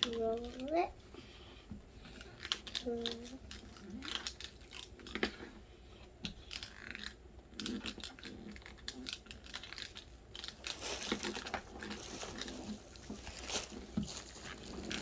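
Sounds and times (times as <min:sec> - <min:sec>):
hands working play dough: 0:00.0 - 0:15.0.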